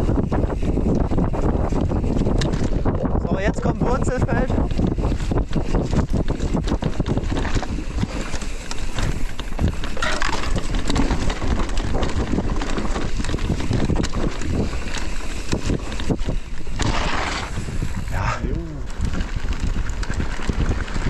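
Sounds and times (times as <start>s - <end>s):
bike rattling: 0.0s - 21.0s
wind buffeting microphone: 0.0s - 21.0s.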